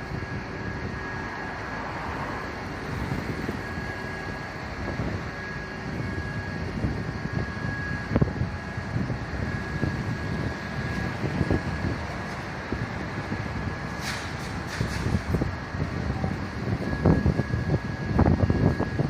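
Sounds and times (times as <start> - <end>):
engine rumbling: 0.0 - 19.0
wind on microphone: 2.9 - 19.0.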